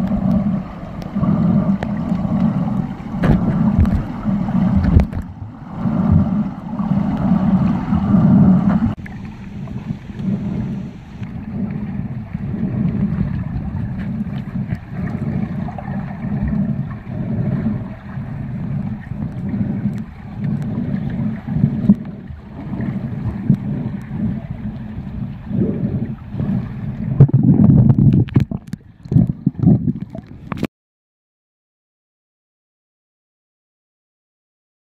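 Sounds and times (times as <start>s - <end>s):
muffled underwater sloshing: 0.0s - 30.7s.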